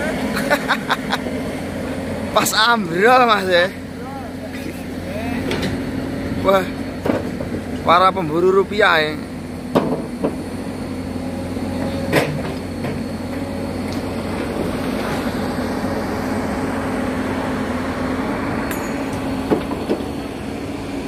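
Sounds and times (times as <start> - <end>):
diesel machinery droning: 0.0 - 21.0.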